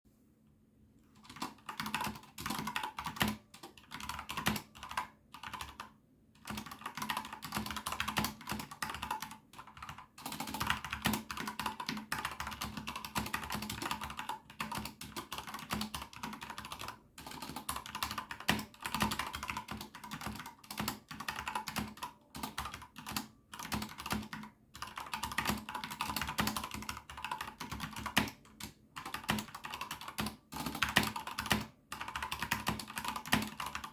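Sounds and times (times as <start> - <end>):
fast mechanical keyboard typing: 1.2 - 33.9.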